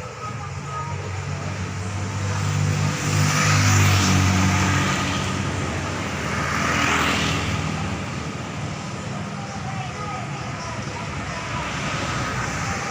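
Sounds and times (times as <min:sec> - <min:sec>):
vehicles passing close by: 0:00.0 - 0:12.9.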